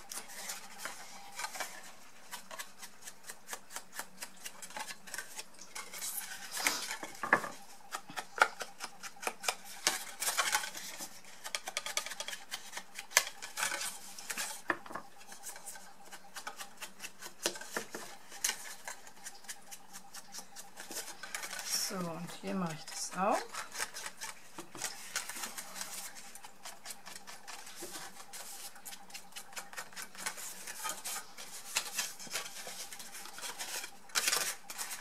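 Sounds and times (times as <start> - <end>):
card and sponge scraping: 0.0 - 35.0.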